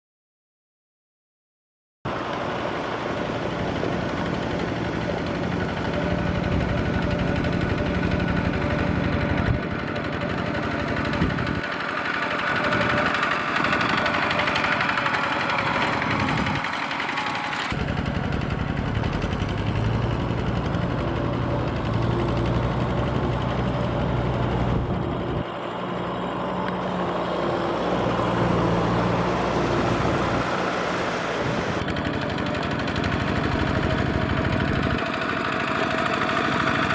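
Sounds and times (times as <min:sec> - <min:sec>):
diesel tractor engine running: 0:02.1 - 0:36.9.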